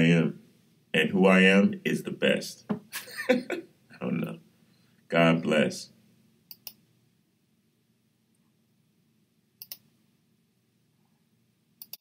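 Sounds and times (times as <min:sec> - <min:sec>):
quiet room hum: 0:00.0 - 0:12.0.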